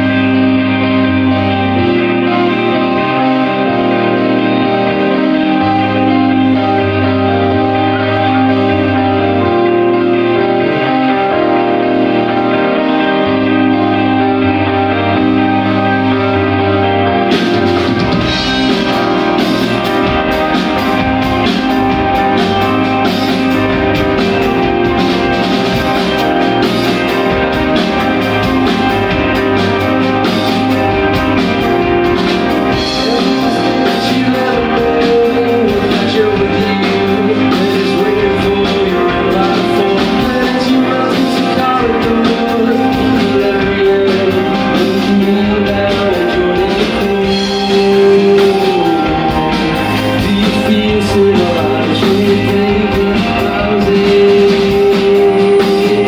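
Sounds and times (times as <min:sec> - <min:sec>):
man singing: 0:00.0 - 0:29.6, 0:30.4 - 0:56.0
bass guitar: 0:00.0 - 0:56.0
drum kit: 0:00.0 - 0:56.0
electric guitars: 0:00.0 - 0:56.0.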